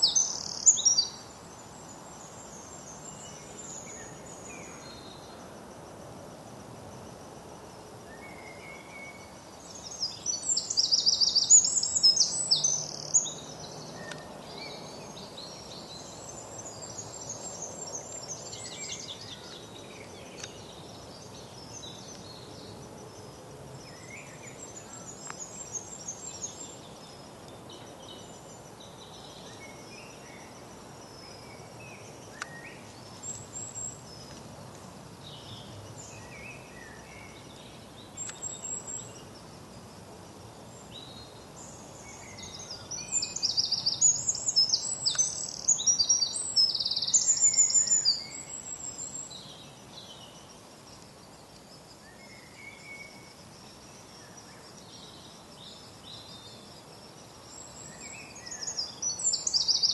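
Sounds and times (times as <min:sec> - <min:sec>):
loud high-pitched birdsong: 0:00.0 - 0:05.4, 0:08.1 - 0:22.8, 0:23.8 - 0:34.4, 0:35.2 - 0:39.8, 0:40.7 - 0:59.9
steady background hiss: 0:00.0 - 0:59.9.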